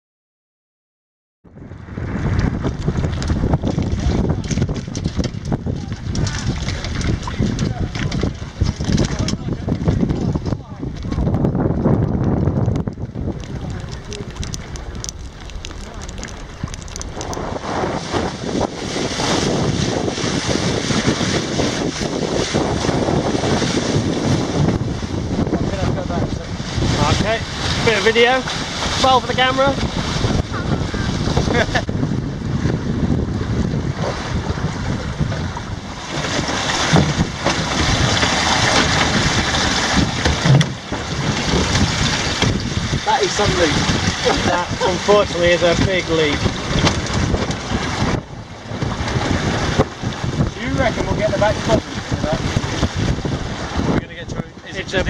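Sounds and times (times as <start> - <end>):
wind buffeting microphone: 1.5 - 55.0
water sloshing around boat: 2.6 - 55.0.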